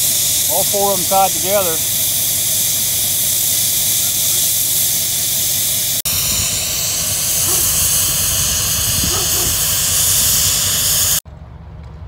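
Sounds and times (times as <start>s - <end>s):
loud steady hiss: 0.0s - 11.2s
diesel engine rumble: 0.0s - 12.0s.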